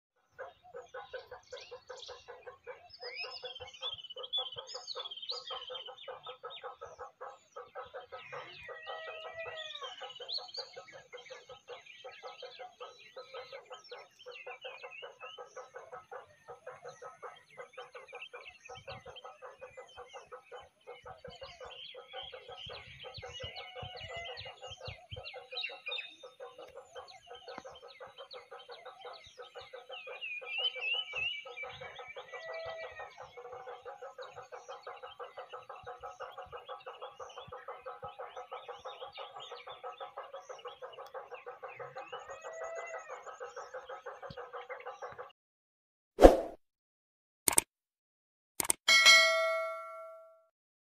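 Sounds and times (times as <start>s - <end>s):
bird chirps and calls: 0.2s - 45.3s
rapid pulsing animal chorus: 0.2s - 45.3s.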